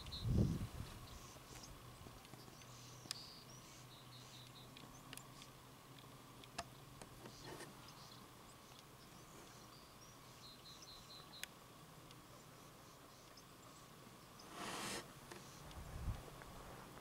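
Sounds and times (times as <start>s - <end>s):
faint birds chirping: 0.0s - 15.9s
faint steady hum: 0.0s - 17.0s.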